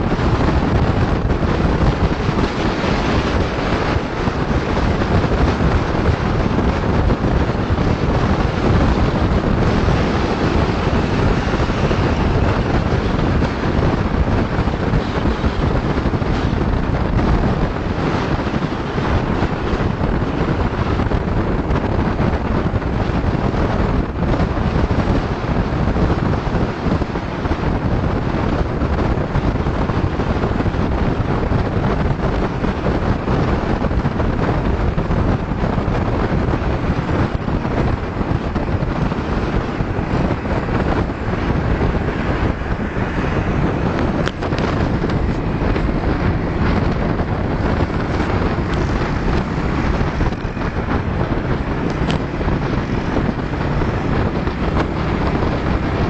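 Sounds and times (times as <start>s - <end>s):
motor scooters running: 0.0s - 56.0s
wind buffeting microphone: 0.0s - 56.0s.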